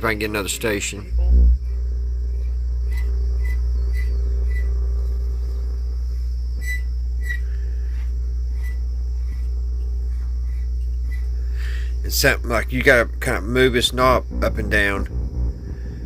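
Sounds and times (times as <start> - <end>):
radio speaker low hum: 0.0 - 16.0.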